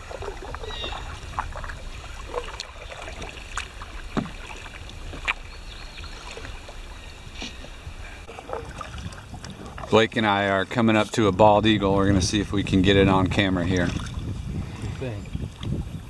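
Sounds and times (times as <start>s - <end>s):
paddle splashing in water: 0.0s - 16.0s.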